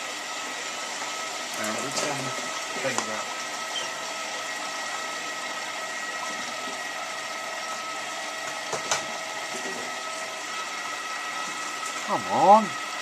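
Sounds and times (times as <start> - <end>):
washing machine hum: 0.0 - 13.0.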